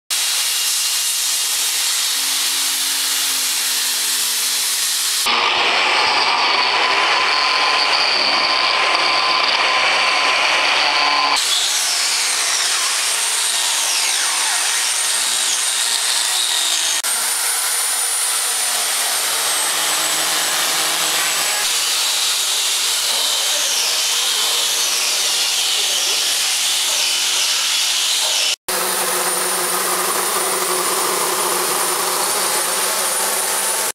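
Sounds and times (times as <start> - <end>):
disc sander sanding wood: 0.1 - 5.4, 11.4 - 33.9
angle grinder grinding wood: 0.1 - 33.9.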